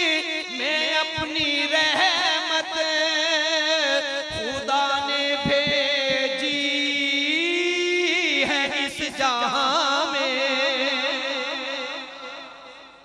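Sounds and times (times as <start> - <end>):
man singing melisma: 0.0 - 13.0.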